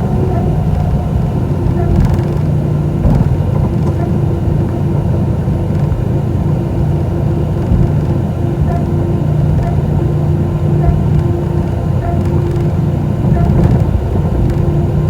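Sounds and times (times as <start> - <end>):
jet engines idling rumble: 0.0 - 15.0.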